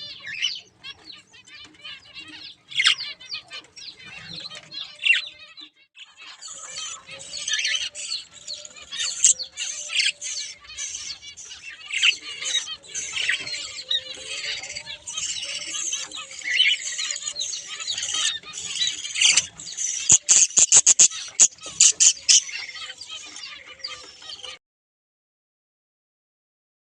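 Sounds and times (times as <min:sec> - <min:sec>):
budgerigars chattering and warbling: 0:00.0 - 0:24.6.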